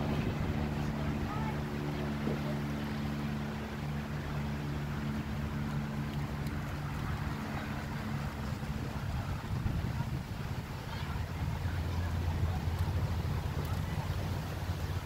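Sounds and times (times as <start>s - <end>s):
low engine hum: 0.0s - 15.0s
noisy background: 0.0s - 15.0s.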